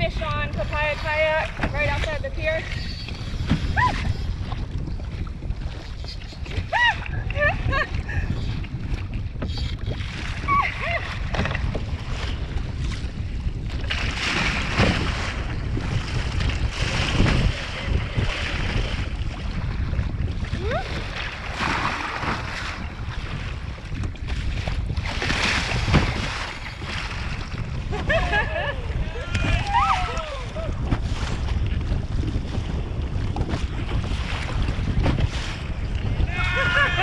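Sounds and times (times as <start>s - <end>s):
waves splashing against kayak: 0.0s - 37.0s
wind buffeting microphone: 0.0s - 37.0s.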